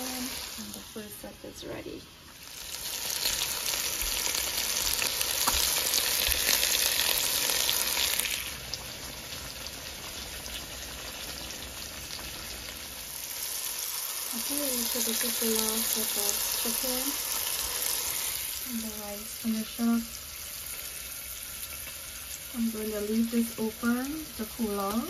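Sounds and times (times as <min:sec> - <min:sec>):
chicken sizzling in oil: 0:00.0 - 0:01.3, 0:02.2 - 0:25.0.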